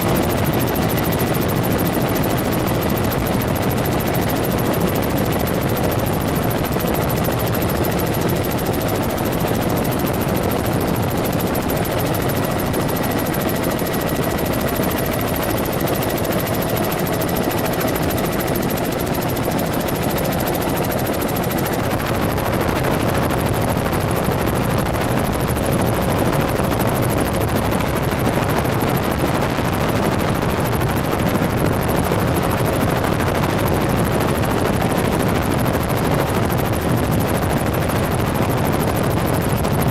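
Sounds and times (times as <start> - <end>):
faint turbine whine: 0.0 - 39.9
helicopter engine and rotor drone: 0.0 - 39.9.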